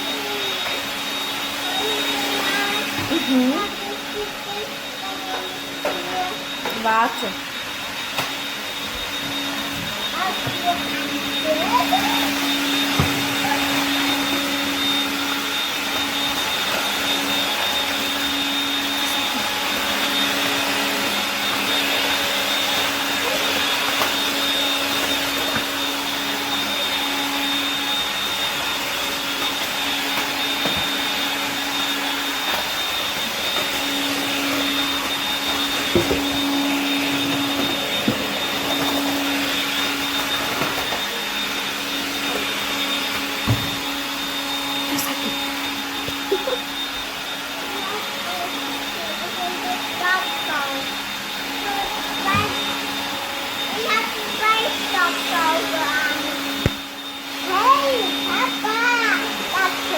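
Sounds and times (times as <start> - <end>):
stick vacuum whining: 0.0 - 59.9.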